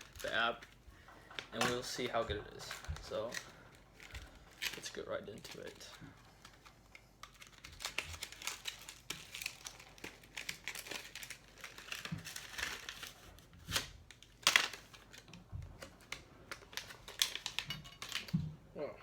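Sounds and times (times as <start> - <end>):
packaging crinkling and tearing: 0.0 - 18.4.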